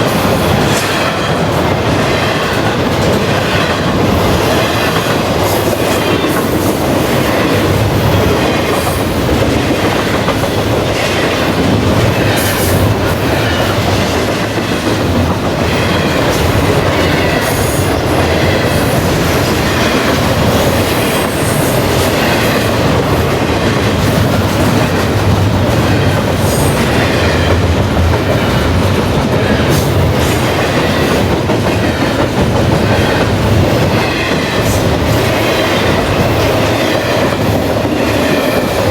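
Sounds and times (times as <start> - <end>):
freight train wheel rumble: 0.0 - 38.9.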